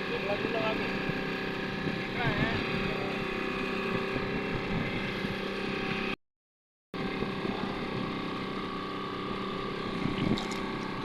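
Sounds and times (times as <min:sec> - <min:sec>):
boat engine humming: 0:00.0 - 0:06.2, 0:07.0 - 0:11.0.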